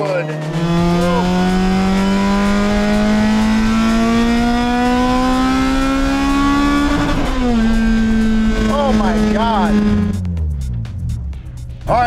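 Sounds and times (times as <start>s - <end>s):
car engine screaming under acceleration: 0.4s - 10.2s.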